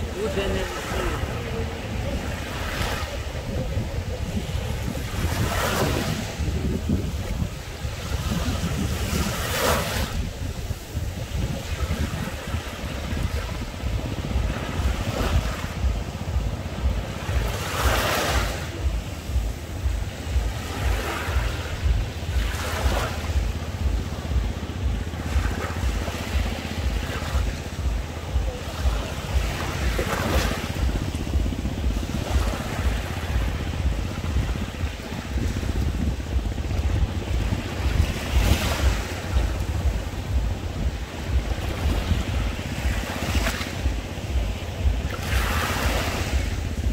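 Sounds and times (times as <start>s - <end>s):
small waves breaking on beach: 0.0s - 46.9s
wind rumble on microphone: 0.0s - 46.9s.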